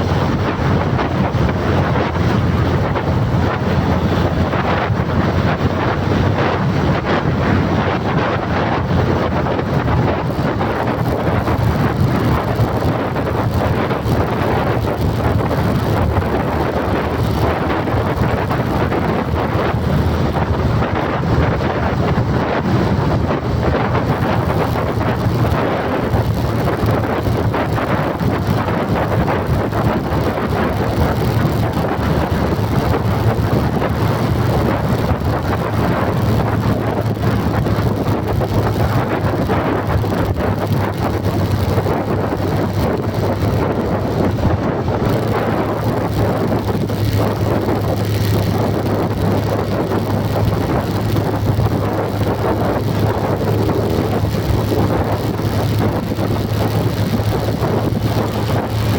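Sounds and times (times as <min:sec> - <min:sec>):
moving vehicle rumble: 0:00.0 - 0:58.9
wind noise on microphone: 0:00.0 - 0:58.9.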